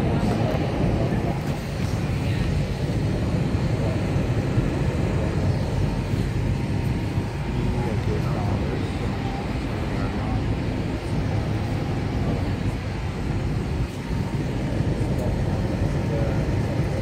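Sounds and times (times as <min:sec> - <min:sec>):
jet airliner cabin roar: 0:00.0 - 0:17.0.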